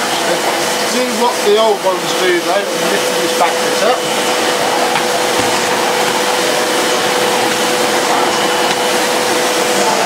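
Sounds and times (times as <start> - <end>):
vacuum cleaner running: 0.0 - 10.0
vacuum nozzle pushed over carpet: 0.6 - 10.0.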